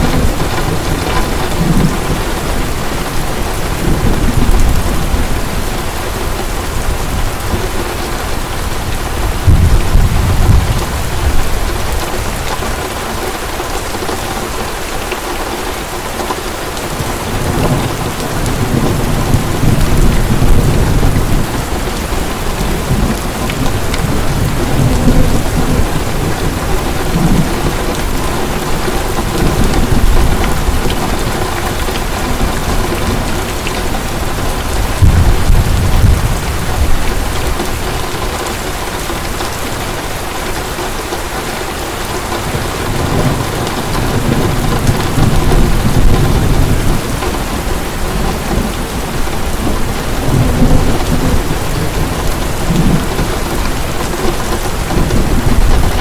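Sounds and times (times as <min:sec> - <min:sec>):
low rolls of thunder: 0:00.0 - 0:12.5, 0:17.2 - 0:38.5, 0:42.5 - 0:56.0
heavy rain: 0:00.0 - 0:56.0.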